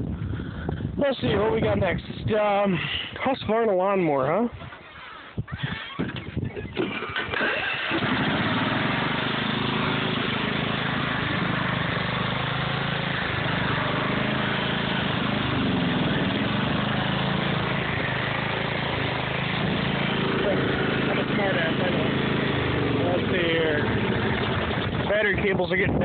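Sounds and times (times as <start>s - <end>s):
lawn mower engine starting and running: 4.5s - 26.0s.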